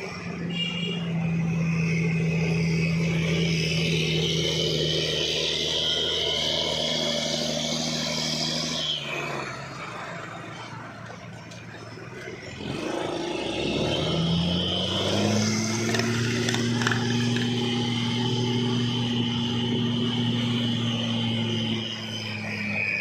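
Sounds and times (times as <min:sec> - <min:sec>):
high whine: 0:00.0 - 0:23.0
truck diesel engine pulling: 0:00.0 - 0:23.0.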